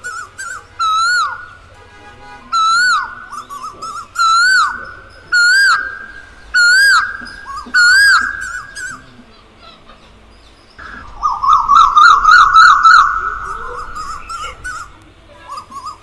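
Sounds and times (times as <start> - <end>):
koel calling: 0.0 - 1.7, 2.4 - 16.0.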